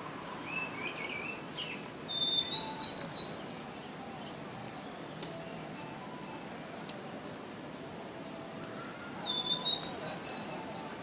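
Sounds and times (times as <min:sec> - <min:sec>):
bird calling and warbling: 0:00.4 - 0:10.9.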